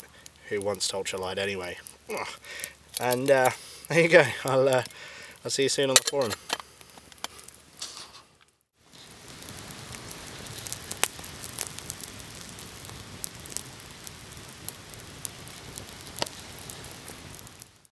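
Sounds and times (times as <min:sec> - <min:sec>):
campfire crackling and popping: 0:00.0 - 0:17.9.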